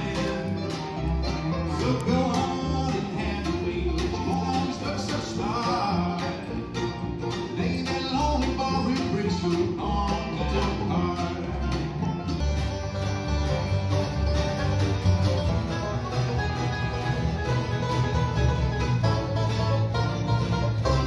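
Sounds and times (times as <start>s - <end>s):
banjo picking: 0.0s - 21.0s
guitar picking: 0.0s - 21.0s
upright bass: 0.0s - 21.0s.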